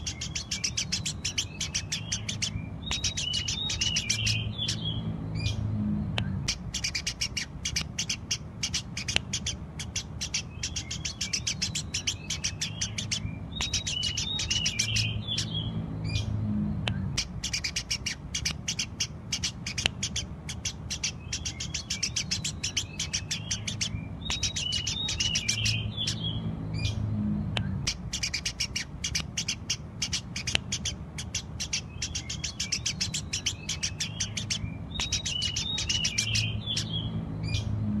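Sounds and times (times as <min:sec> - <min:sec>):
bird twittering phrase: 0:00.0 - 0:37.8
sparrow chirping: 0:00.0 - 0:38.0.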